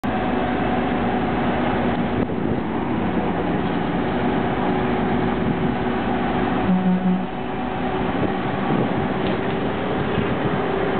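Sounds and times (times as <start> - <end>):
paving machine engine running: 0.0 - 10.9.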